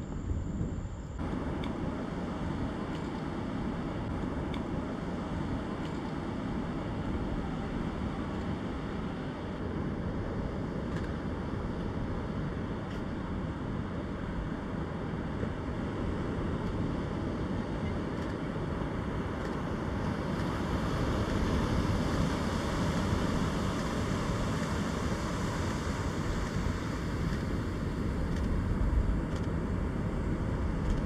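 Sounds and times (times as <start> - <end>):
wind rumbling on microphone: 0.0 - 31.0
surf waves breaking: 1.2 - 31.0.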